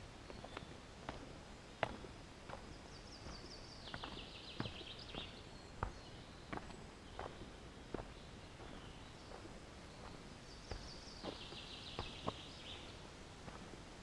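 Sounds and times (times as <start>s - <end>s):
walking footsteps: 0.0s - 14.0s.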